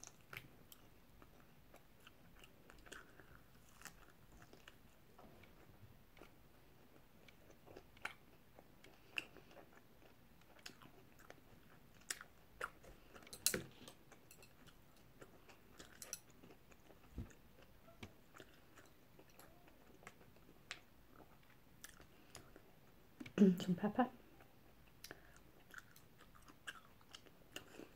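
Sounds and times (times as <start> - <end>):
person chewing: 0.0 - 23.4, 24.3 - 27.9.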